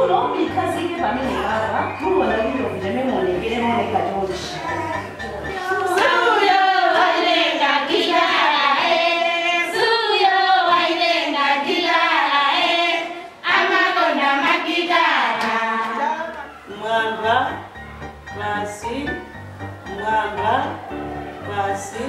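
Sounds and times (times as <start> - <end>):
voices singing: 0.0 - 22.0.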